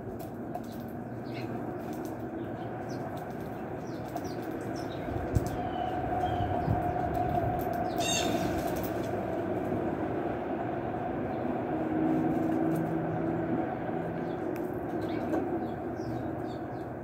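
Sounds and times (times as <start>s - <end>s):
low droning hum: 0.0s - 17.0s
low outdoor rumble: 0.0s - 17.0s.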